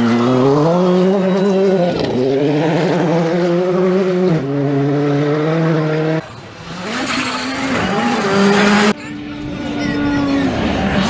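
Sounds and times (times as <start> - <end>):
approaching rally car engine: 0.0 - 11.0
rally car engine running hard: 0.0 - 11.0.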